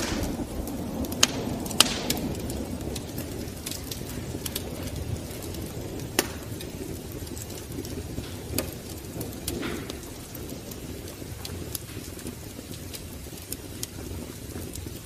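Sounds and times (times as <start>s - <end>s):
fire crackling pops: 0.0s - 15.0s
low rush of burning fire: 0.0s - 15.0s.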